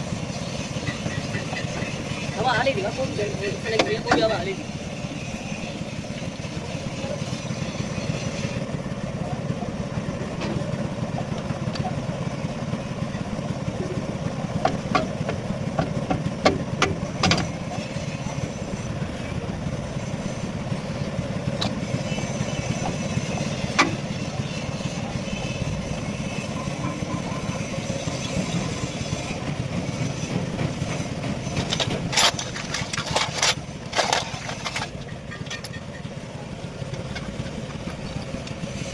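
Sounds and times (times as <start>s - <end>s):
engine droning: 0.0s - 38.9s.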